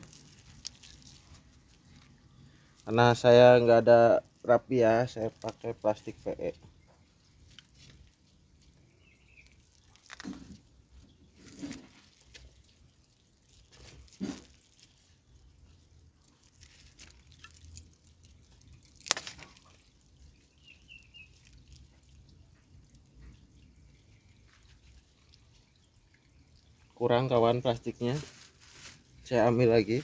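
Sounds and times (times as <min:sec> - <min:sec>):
plastic rustling and crinkling: 0:00.0 - 0:30.0.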